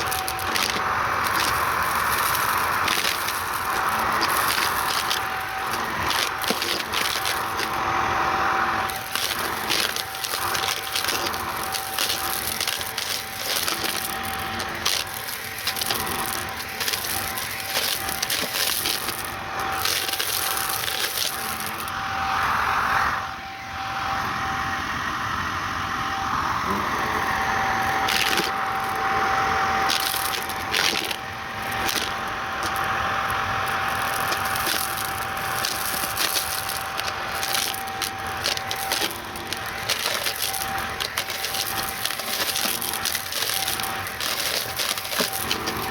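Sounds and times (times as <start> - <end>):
debris crackling being sucked up: 0.0 - 22.0, 27.8 - 45.9
vacuum cleaner motor whine: 0.0 - 45.9.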